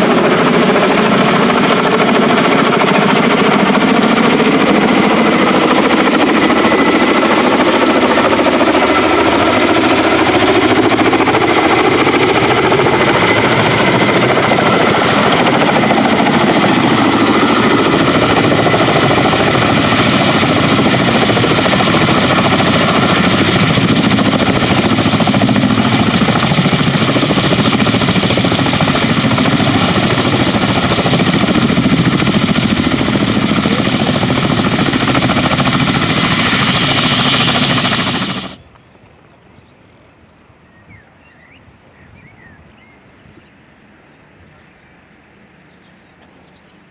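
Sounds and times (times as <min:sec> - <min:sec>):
helicopter rotor chop: 0:00.0 - 0:38.6
high turbine whine: 0:00.0 - 0:38.7.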